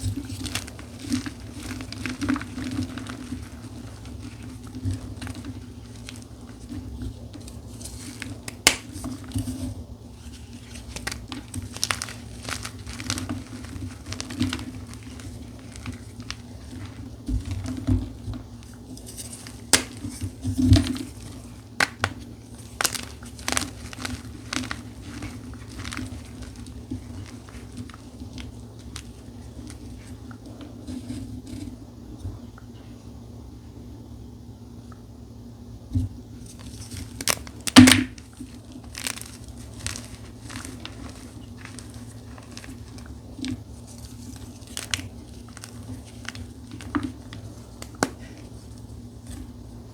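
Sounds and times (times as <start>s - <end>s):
chalk blocks crunching: 0.0s - 31.6s, 36.4s - 49.6s.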